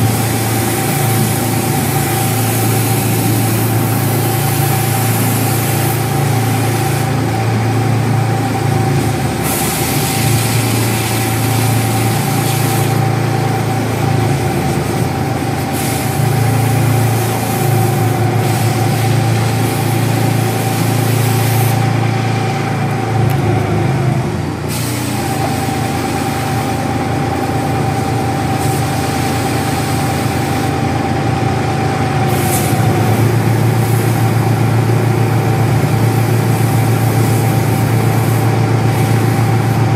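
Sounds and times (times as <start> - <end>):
foam hissing from hose nozzle: 0.0 - 22.0, 24.6 - 30.8, 32.3 - 39.9
foam unit engine humming: 0.0 - 39.9.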